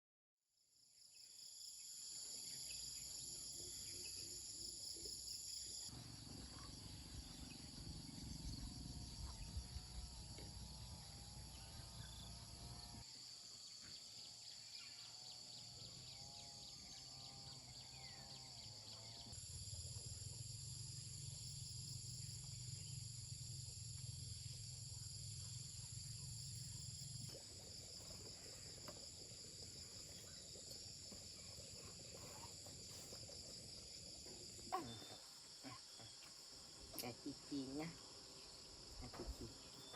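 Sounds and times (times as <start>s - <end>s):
insects chirping: 1.0s - 39.9s.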